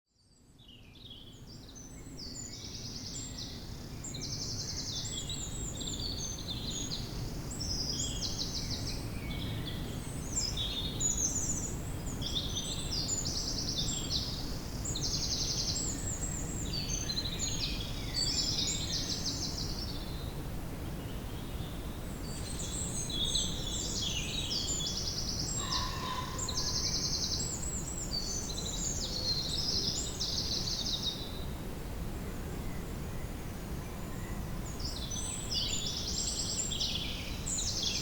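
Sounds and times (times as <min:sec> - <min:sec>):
songbirds singing and calling: 0:00.2 - 0:31.6, 0:32.4 - 0:38.0.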